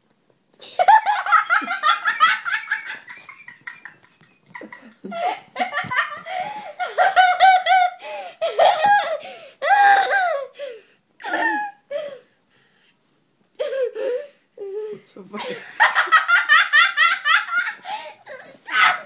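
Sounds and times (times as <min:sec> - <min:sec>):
girl giggling: 0:00.6 - 0:12.2, 0:13.6 - 0:19.0.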